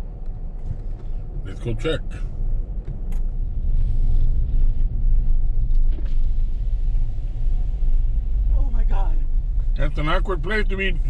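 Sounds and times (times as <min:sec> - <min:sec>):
vehicle driving on road: 0:00.0 - 0:11.0.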